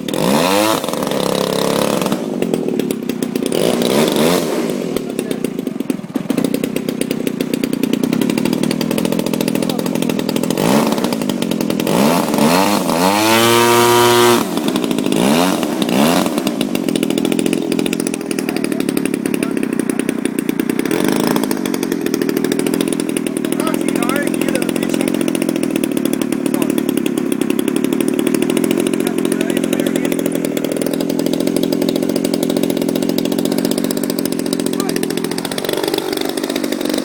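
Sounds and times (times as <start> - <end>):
model airplane engine buzzing: 0.0 - 37.0.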